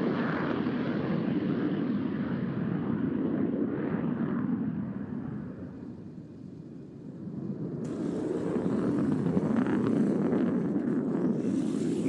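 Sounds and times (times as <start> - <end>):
fighter jet flying by: 0.0 - 12.0.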